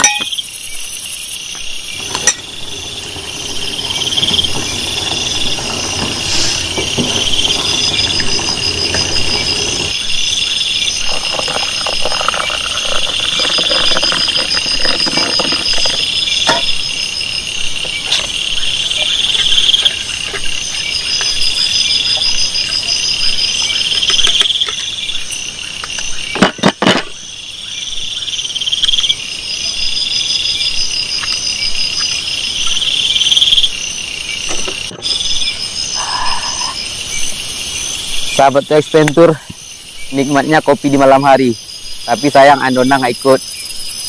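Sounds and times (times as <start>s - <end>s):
crickets trilling: 0.0s - 44.0s
loud insect call: 0.0s - 44.0s.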